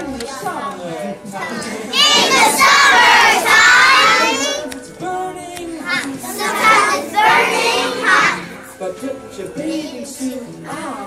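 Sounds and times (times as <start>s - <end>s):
children singing and shouting: 0.0s - 11.0s.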